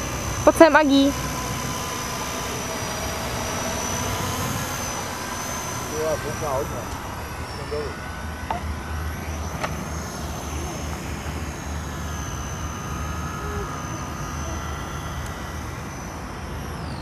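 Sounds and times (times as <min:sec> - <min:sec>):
low rotor hum: 0:00.0 - 0:17.0
model helicopter motor whine: 0:00.0 - 0:17.0.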